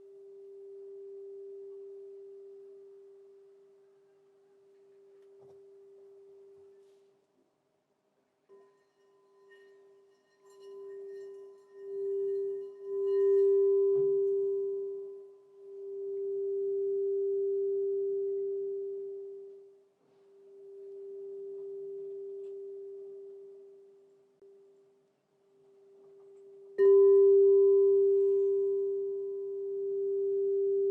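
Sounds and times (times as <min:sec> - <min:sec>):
crystal singing bowl tone: 0:00.0 - 0:07.0, 0:08.5 - 0:25.0, 0:25.6 - 0:30.9.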